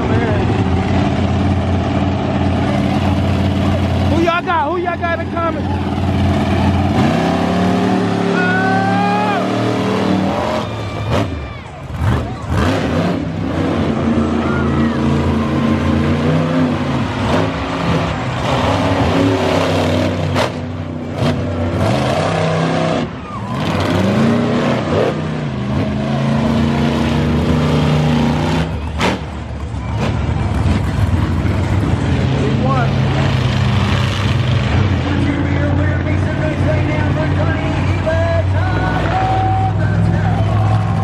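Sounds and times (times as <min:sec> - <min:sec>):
monster truck engines revving: 0:00.0 - 0:41.0.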